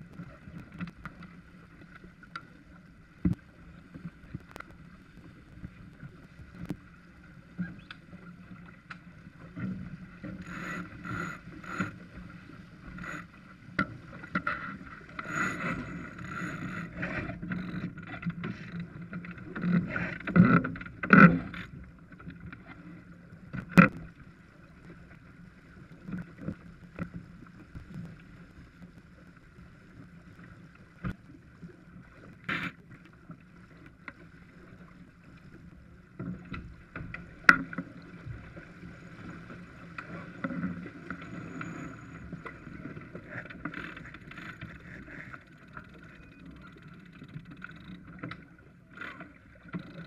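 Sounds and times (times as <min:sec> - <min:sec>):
water rushing along boat hull: 0:00.0 - 0:50.0.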